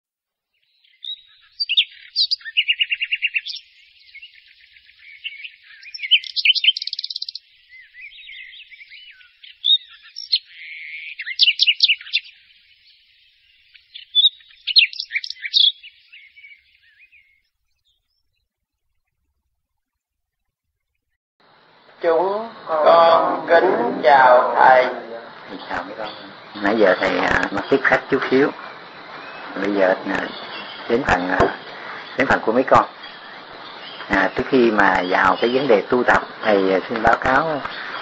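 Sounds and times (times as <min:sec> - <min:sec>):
songbird chirping and trilling: 0:00.5 - 0:38.0.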